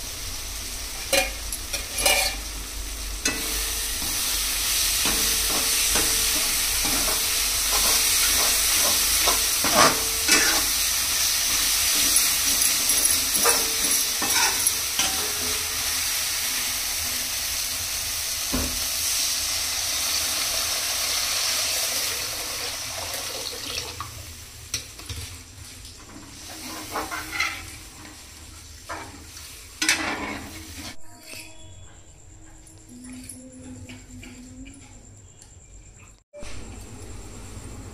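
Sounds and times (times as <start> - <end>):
food sizzling in oil: 0.0 - 31.4.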